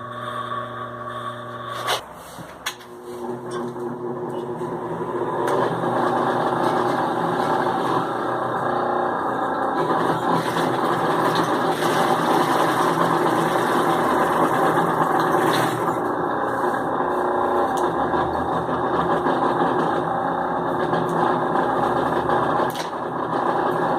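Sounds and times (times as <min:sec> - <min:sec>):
sewing machine running: 0:03.2 - 0:23.9.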